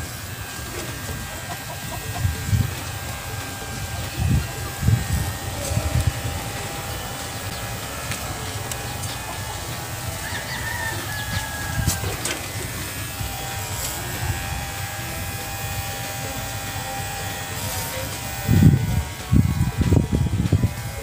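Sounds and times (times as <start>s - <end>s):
electric clipper motor hum: 0.0s - 21.0s.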